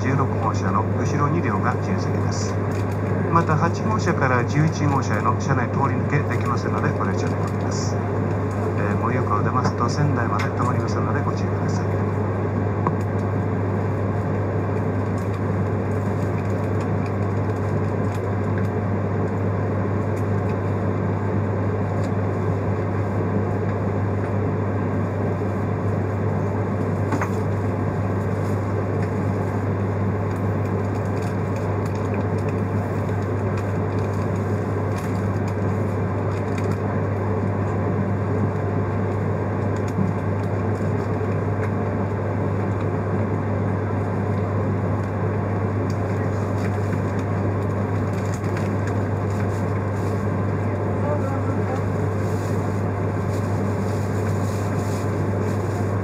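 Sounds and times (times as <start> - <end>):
train cabin hum and rumble: 0.0 - 56.0.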